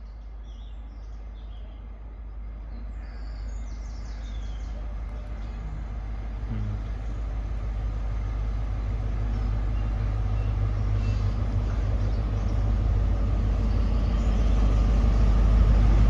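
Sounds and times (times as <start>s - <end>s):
diesel train engine hum: 0.0s - 16.0s.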